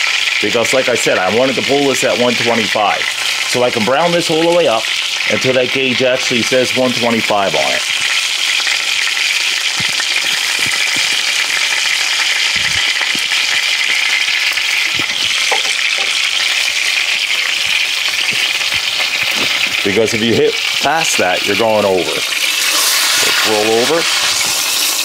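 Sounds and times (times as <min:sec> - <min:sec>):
roast sizzling in hot fat: 0:00.0 - 0:25.0.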